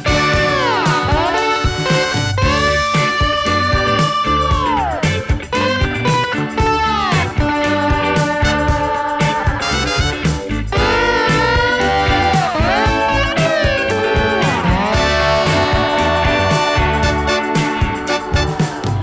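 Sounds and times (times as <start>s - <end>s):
twangy slide guitar over beat: 0.0s - 19.0s.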